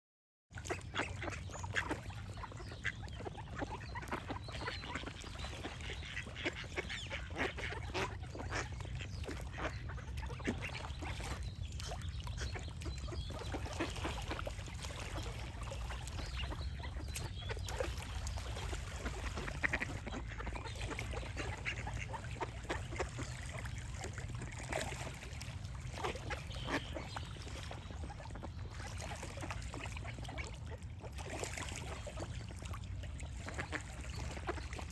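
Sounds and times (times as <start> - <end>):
ducks quacking: 0.6 - 32.4, 33.2 - 34.9
birds calling: 0.7 - 28.8.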